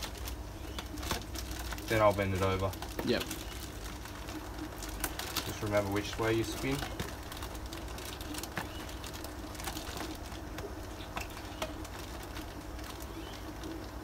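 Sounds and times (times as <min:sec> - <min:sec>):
plastic bag rustling: 0:00.0 - 0:14.0.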